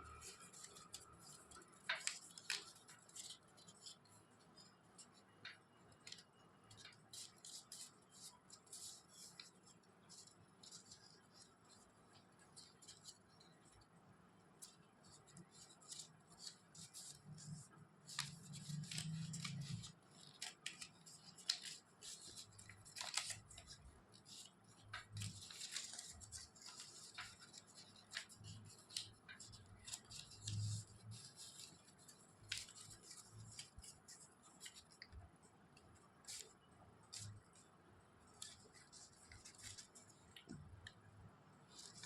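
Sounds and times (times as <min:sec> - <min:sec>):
paper rustling and crinkling: 0:00.0 - 0:13.8, 0:14.5 - 0:42.0.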